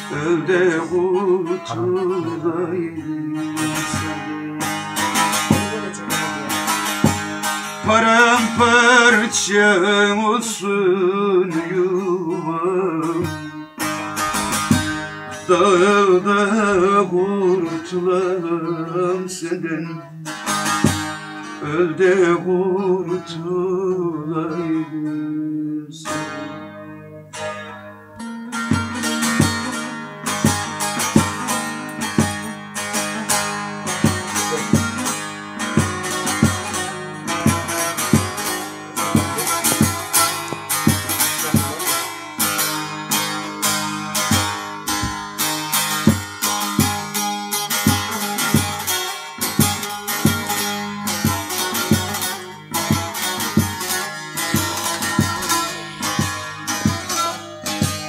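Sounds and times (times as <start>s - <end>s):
long-necked lute strumming: 0.0s - 58.0s.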